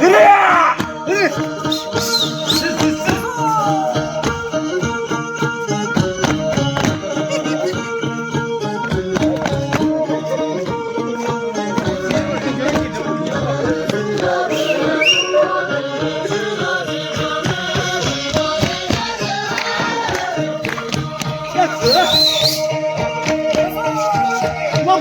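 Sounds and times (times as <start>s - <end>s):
folk music: 0.0s - 25.0s
person singing: 0.0s - 25.0s.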